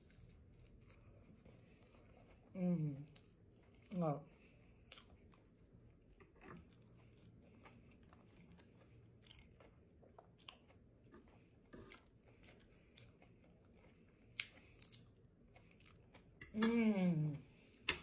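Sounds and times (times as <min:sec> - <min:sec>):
faint chewing: 0:00.0 - 0:18.0.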